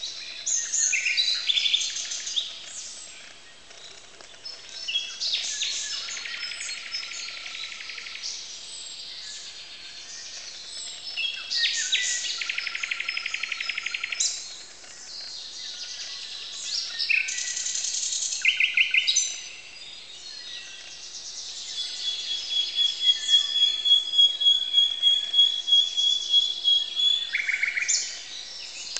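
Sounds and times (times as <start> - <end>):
nightingale trills and whistles: 0.0 - 3.1, 4.6 - 14.5, 15.7 - 28.9
songbirds dawn chorus: 0.0 - 28.9.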